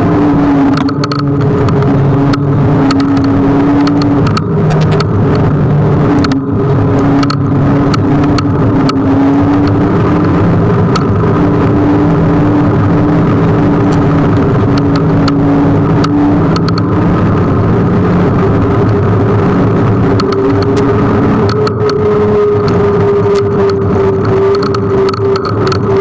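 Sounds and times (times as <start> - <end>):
low hum: 0.0 - 26.0
road and wind noise: 0.0 - 26.0.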